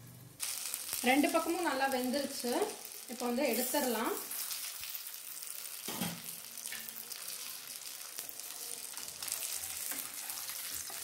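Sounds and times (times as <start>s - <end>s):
oil sizzling in pan: 0.3s - 11.0s.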